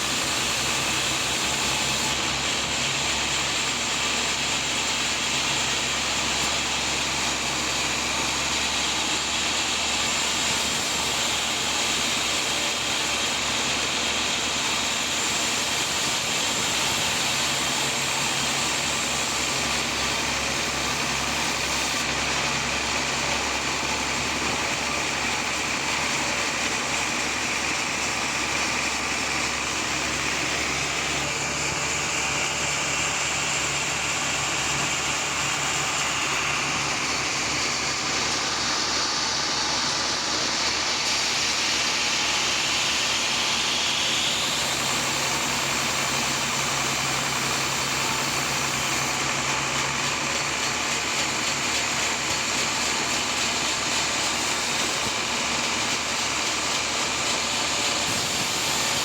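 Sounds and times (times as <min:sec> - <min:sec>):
sawmill machinery sawing log: 0:00.0 - 0:59.0.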